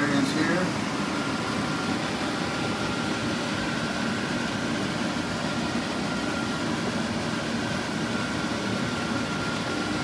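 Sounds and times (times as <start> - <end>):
faint high whine: 0.0 - 10.0
machinery hum: 0.0 - 10.0.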